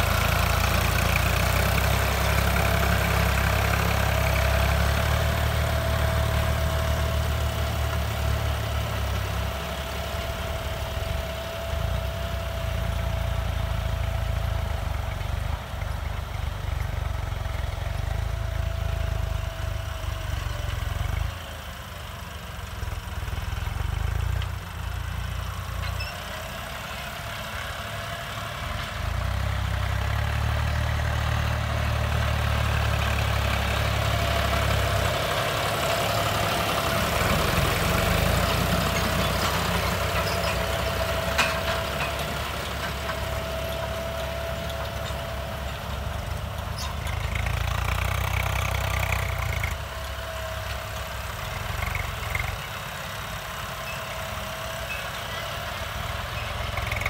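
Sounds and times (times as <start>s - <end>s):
tractor diesel engine rumbling: 0.0s - 57.0s.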